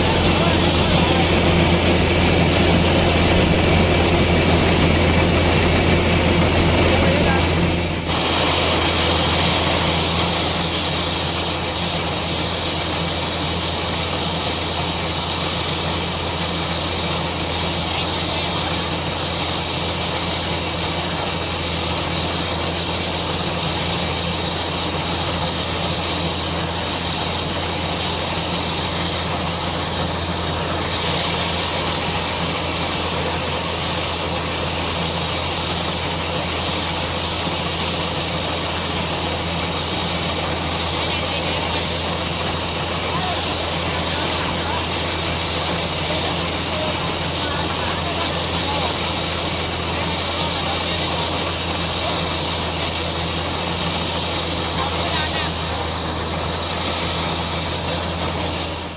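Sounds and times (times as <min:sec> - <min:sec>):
harvester engine hum: 0:00.0 - 0:58.9
machinery hiss: 0:00.0 - 0:58.9.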